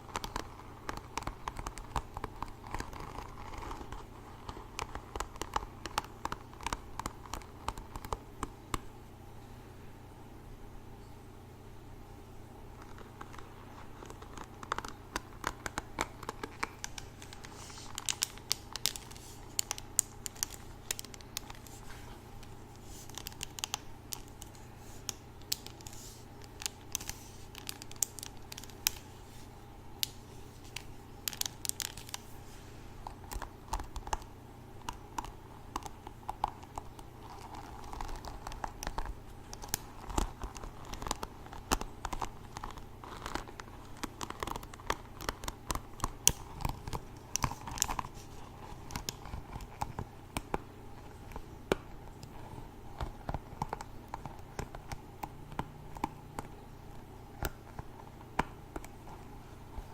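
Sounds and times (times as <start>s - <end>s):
crinkling and scratching handling: 0.0s - 8.8s, 12.7s - 59.9s.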